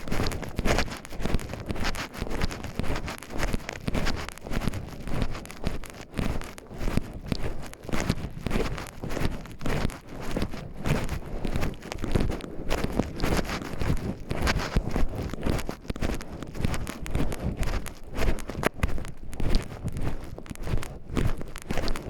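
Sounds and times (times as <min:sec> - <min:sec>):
footsteps on forest trail: 0:00.0 - 0:22.0.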